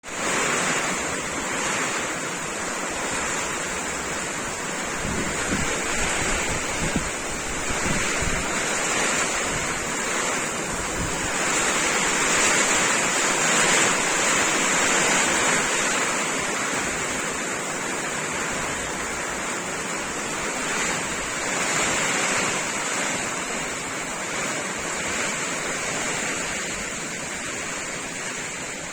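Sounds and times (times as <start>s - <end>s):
steady hiss of rain: 0.0s - 28.9s
wind buffeting microphone: 0.2s - 28.9s.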